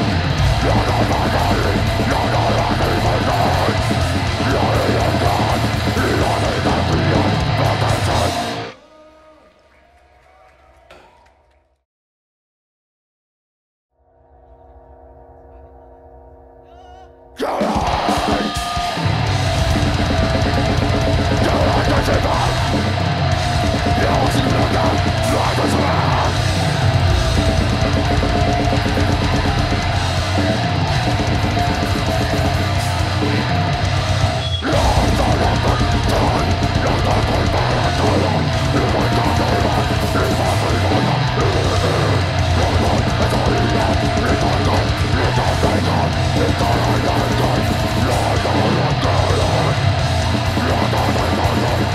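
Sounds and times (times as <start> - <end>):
heavy metal band playing live: 0.0 - 8.8, 17.4 - 51.9
vocals: 0.0 - 11.2, 16.6 - 51.9.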